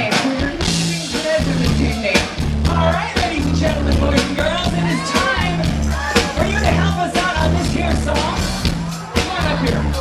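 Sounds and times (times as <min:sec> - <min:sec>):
live rock band playing: 0:00.0 - 0:10.0
low bass riff: 0:00.0 - 0:10.0
drum hits: 0:00.1 - 0:10.0.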